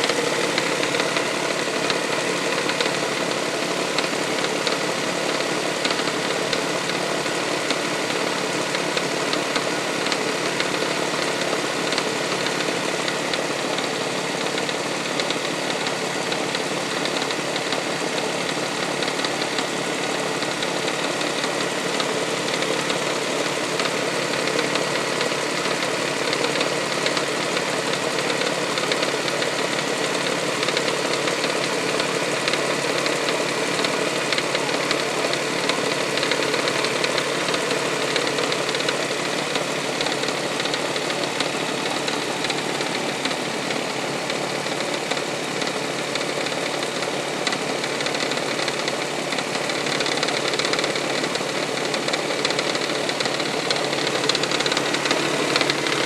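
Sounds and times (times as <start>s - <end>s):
engine knocking and tapping: 0.0s - 56.0s.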